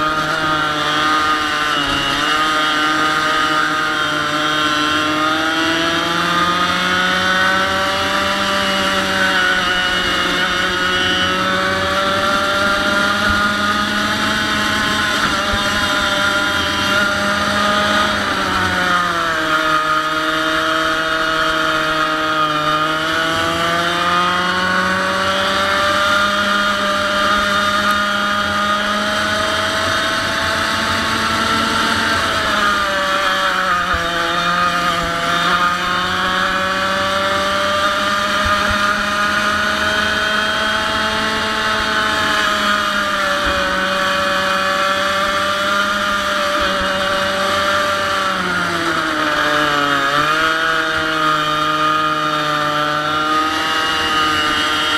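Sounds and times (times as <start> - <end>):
kart engine buzzing at high revs: 0.0 - 54.9.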